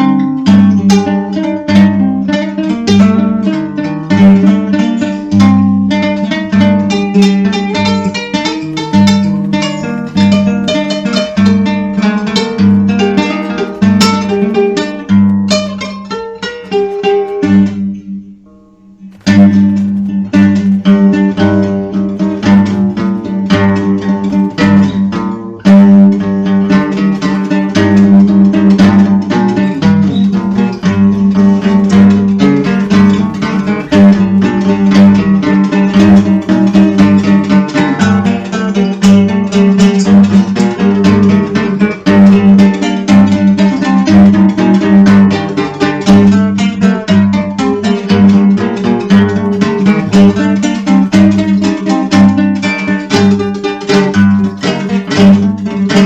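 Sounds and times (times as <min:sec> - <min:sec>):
folk music on acoustic guitar: 0:00.0 - 0:56.0.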